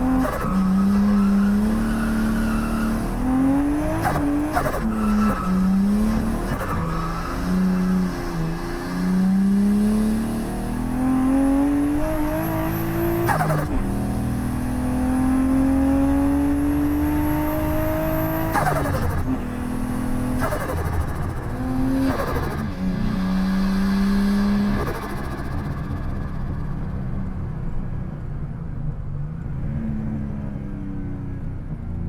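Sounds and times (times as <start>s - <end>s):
car engine accelerating: 0.0s - 28.2s.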